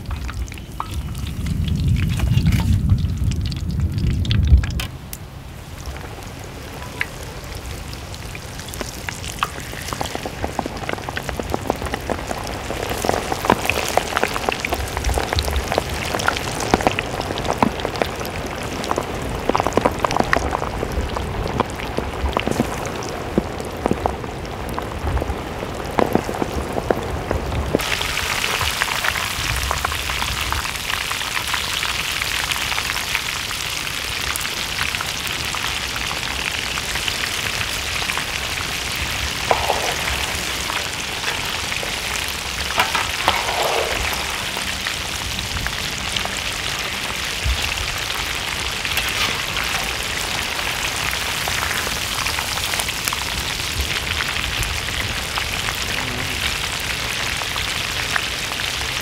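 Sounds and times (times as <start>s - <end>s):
chicken frying in hot oil: 0.0s - 59.0s.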